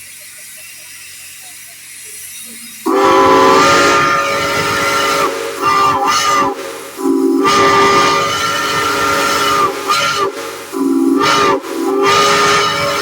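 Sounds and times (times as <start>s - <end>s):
steam hissing: 0.0s - 13.0s
multi-chime steam whistle: 2.4s - 13.0s.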